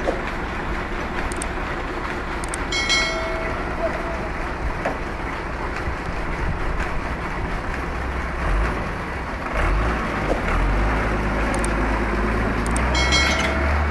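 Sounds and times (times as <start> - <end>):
tractor diesel engine rumbling: 0.0 - 13.9.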